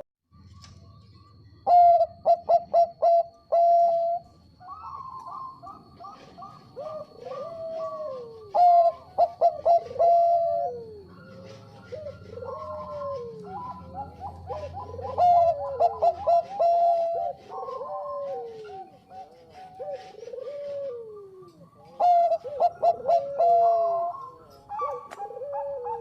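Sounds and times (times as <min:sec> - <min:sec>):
dove cooing: 0:01.6 - 0:26.0.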